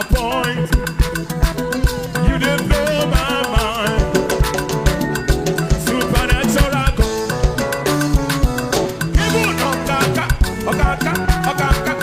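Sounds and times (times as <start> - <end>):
fast steady drum beat: 0.0 - 12.0
upbeat praise music: 0.0 - 12.0
wavering melody line: 0.6 - 12.0.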